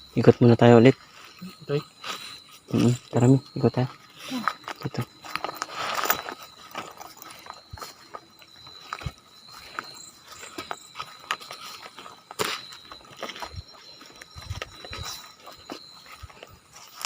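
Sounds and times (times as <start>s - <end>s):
faint high-pitched tone: 0.0s - 17.0s
footsteps over debris: 0.7s - 17.0s.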